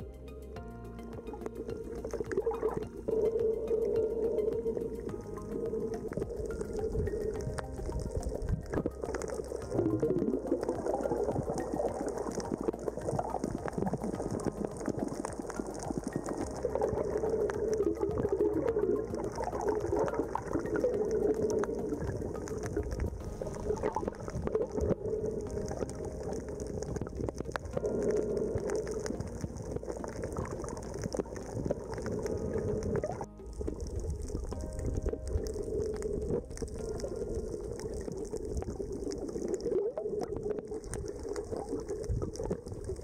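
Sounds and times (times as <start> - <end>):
muffled underwater water noise: 0.0 - 43.0
water bubbling: 1.1 - 43.0
fine crackling clicks: 1.2 - 43.0.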